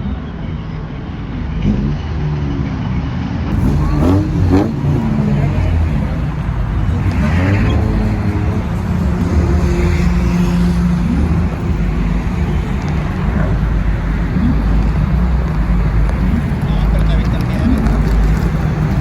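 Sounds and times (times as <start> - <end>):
car engine exhaust revving: 3.5 - 19.0.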